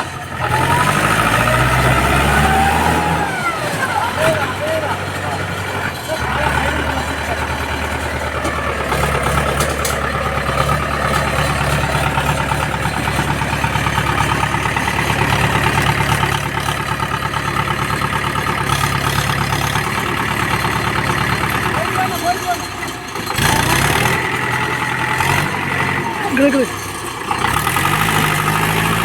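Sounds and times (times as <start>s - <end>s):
heavy engine idling: 0.0s - 29.0s.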